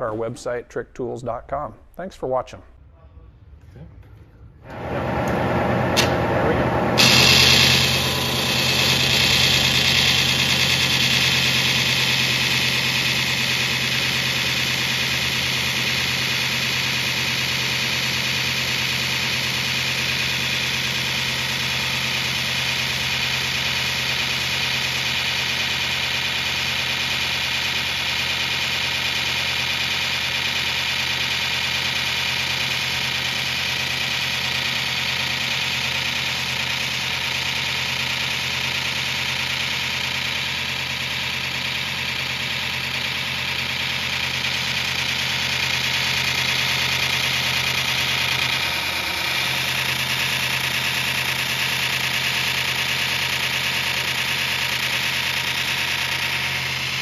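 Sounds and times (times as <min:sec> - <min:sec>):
belt grinder motor hum: 0:04.6 - 0:57.0.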